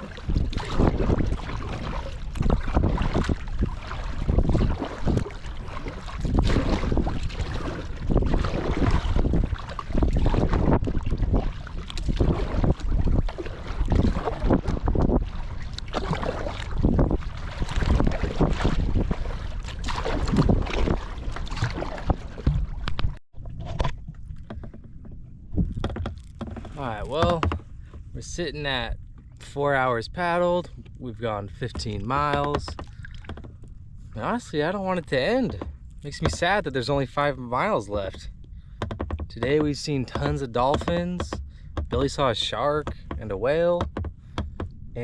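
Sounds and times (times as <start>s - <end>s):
wind buffeting microphone: 0.0s - 29.4s, 30.1s - 45.0s
water splashing around kayak: 0.0s - 45.0s.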